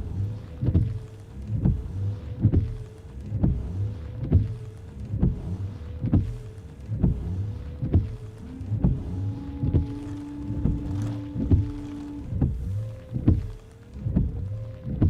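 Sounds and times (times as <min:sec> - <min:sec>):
windshield wipers thumping: 0:00.0 - 0:15.0
wiper motor whine: 0:00.0 - 0:15.0.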